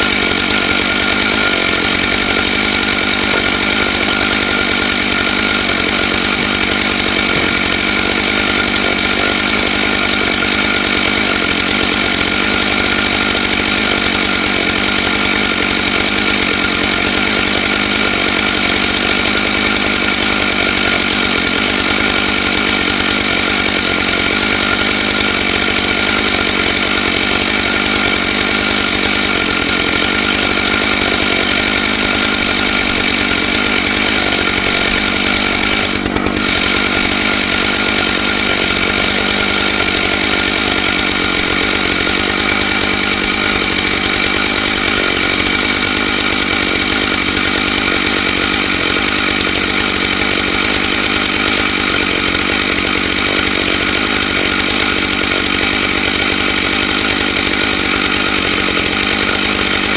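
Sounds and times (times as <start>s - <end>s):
chainsaw ripping a log: 0.0s - 59.9s.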